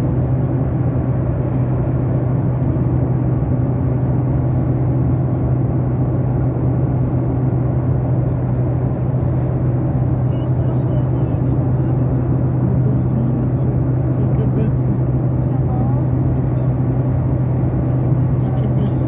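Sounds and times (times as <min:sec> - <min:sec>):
airliner cabin drone: 0:00.0 - 0:19.0.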